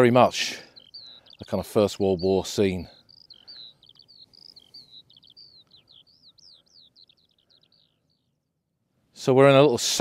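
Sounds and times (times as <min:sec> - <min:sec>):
skylark singing: 0:00.0 - 0:08.6.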